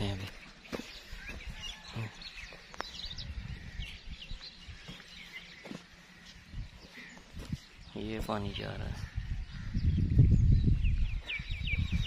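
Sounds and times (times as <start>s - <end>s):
birds chirping: 0.0s - 12.0s
outdoor background noise: 0.0s - 12.0s.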